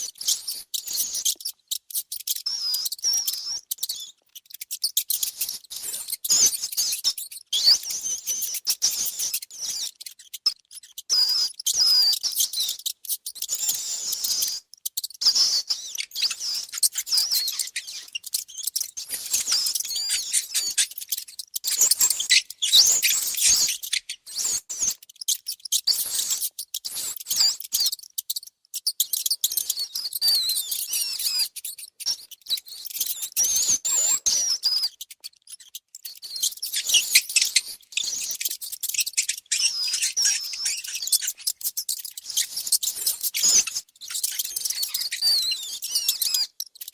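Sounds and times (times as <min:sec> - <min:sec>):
mice squeaking: 0:00.0 - 0:46.9.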